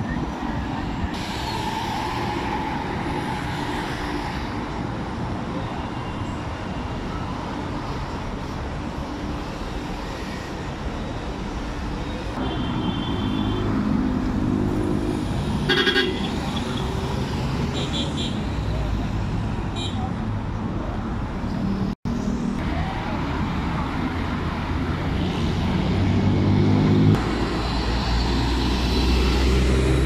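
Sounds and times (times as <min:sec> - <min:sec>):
vehicles passing on street: 0:00.0 - 0:30.0.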